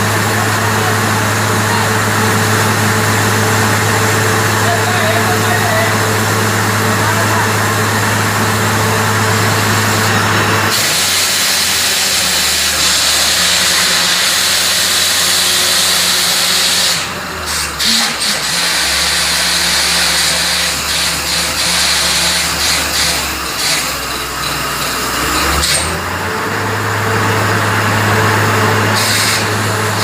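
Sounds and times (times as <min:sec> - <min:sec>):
drilling rig engine drone: 0:00.0 - 0:30.0.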